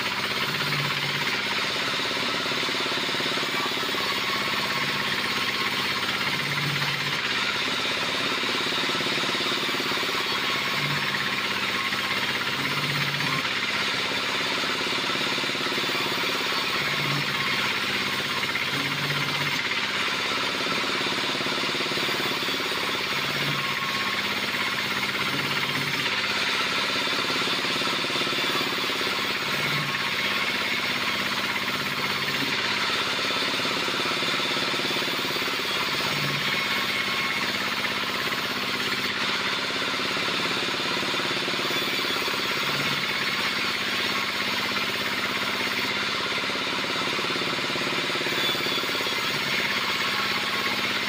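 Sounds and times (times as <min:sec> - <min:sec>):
band saw cutting log: 0:00.0 - 0:51.0.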